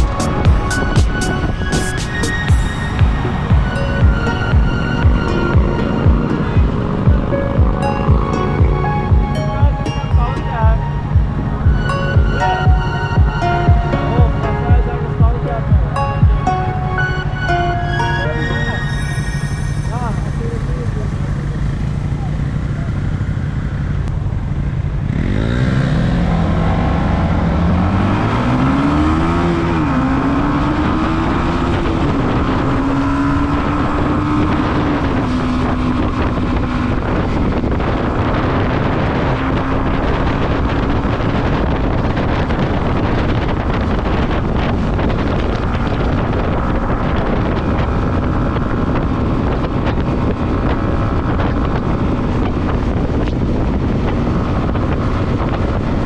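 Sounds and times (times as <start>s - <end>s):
wind rush on microphone: 0.0s - 17.8s, 19.5s - 56.0s
motorcycle engine accelerating: 0.0s - 56.0s.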